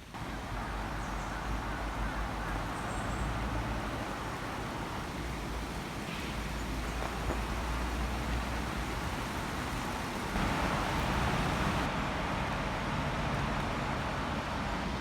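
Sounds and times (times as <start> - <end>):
steady rain in a forest: 0.0 - 15.0.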